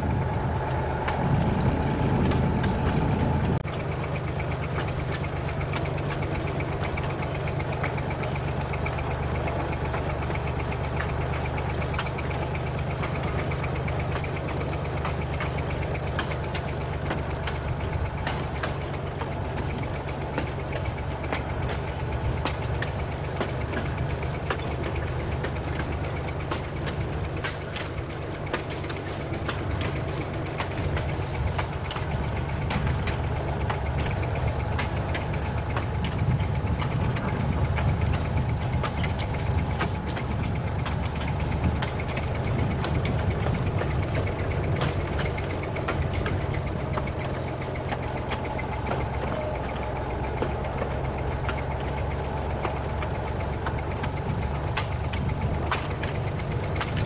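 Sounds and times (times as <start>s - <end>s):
train diesel engine running: 0.0s - 57.0s
wheels clicking on track: 0.0s - 57.0s.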